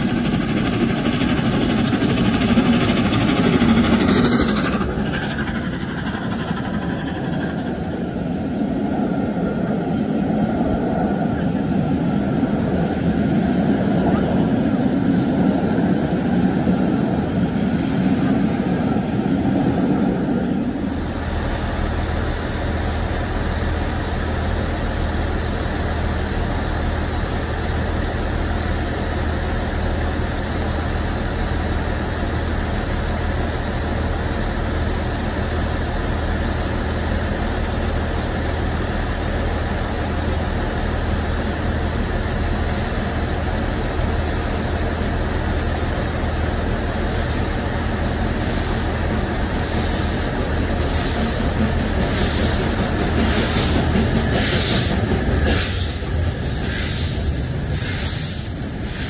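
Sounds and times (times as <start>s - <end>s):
diesel train idling drone: 0.0s - 59.0s
railway coaches rumbling past: 0.0s - 59.0s.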